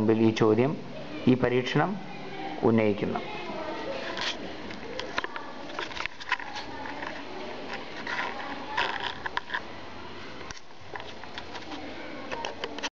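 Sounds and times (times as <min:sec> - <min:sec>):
faint room noise: 0:00.0 - 0:12.9.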